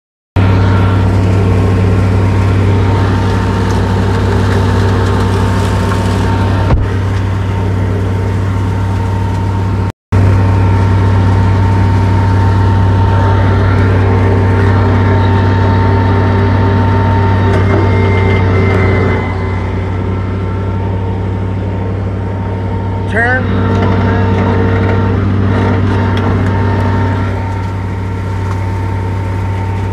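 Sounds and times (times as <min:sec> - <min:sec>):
tractor engine running: 0:00.4 - 0:29.9.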